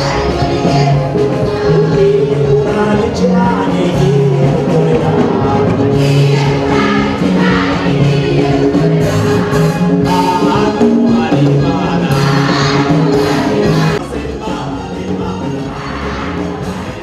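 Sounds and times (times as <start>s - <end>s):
group singing: 0.0s - 17.0s
musical accompaniment with bass line: 0.0s - 17.0s.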